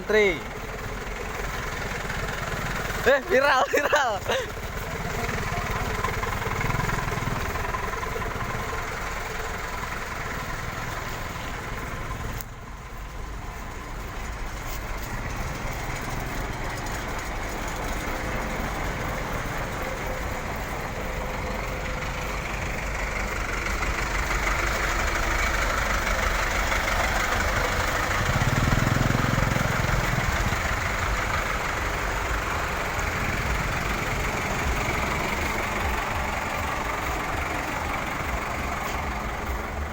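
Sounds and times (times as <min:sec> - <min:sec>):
vehicle engines idling in traffic: 0:00.0 - 0:39.9.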